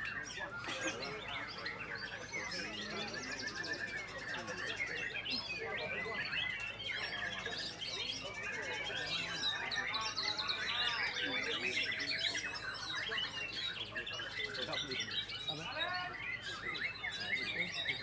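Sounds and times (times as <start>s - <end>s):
other songbirds singing: 0.0s - 18.0s
songbird singing whistles and trills: 0.0s - 18.0s.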